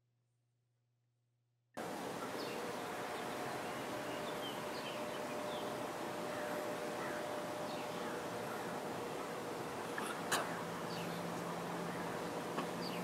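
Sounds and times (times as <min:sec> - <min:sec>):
faint steady hum: 0:01.8 - 0:13.0
steady background hiss: 0:01.8 - 0:13.0
small birds chirping: 0:02.0 - 0:13.0.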